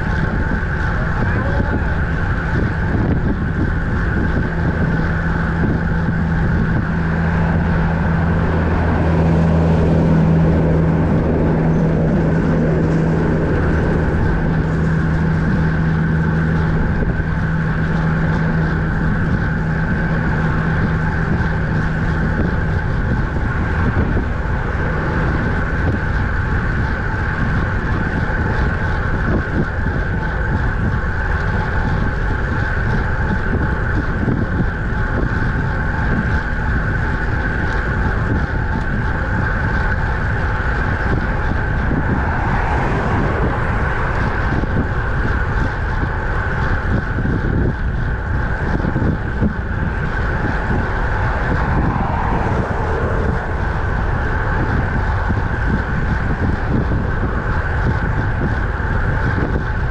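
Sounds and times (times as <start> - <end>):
low steady hum: 0.0 - 59.9
wind rushing over microphone: 0.0 - 59.9.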